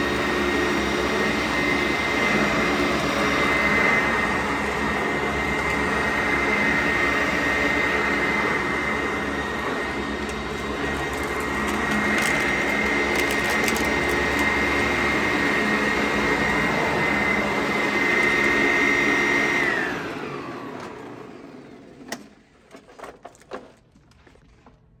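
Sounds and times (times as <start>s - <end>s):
vacuum cleaners whining: 0.0s - 23.7s.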